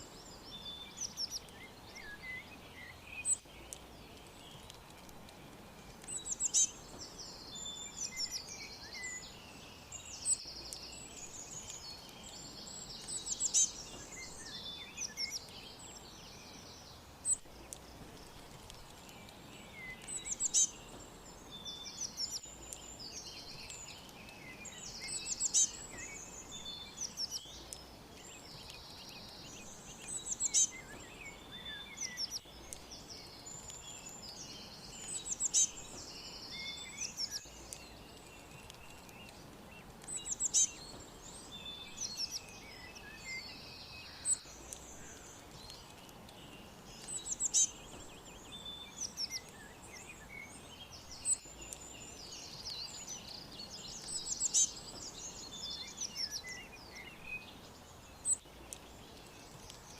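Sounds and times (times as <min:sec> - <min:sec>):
birds chirping and trilling: 0:00.0 - 0:59.9
faint background hiss: 0:00.0 - 0:59.9.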